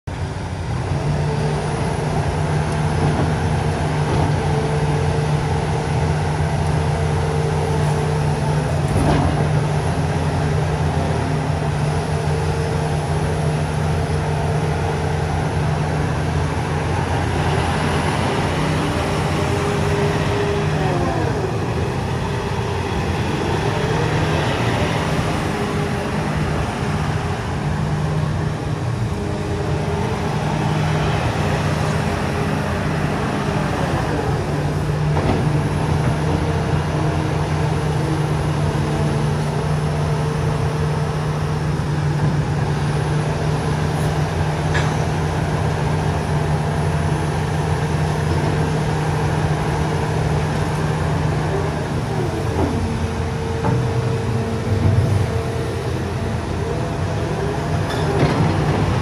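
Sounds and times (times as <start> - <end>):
excavator diesel engine running: 0.1 - 59.0
hydraulic whine: 0.9 - 59.0.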